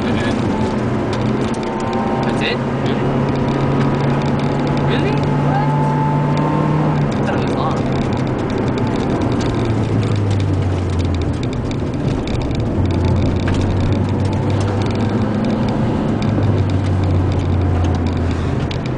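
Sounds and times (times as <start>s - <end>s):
car engine running: 0.0s - 18.9s
tyre and road noise: 0.0s - 18.9s.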